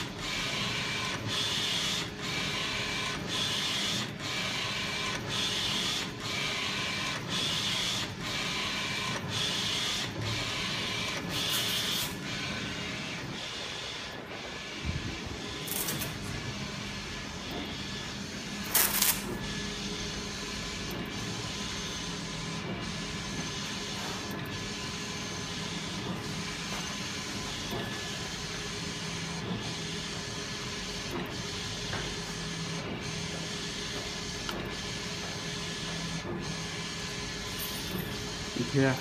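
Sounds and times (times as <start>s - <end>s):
printer motor whirring: 0.0s - 39.0s.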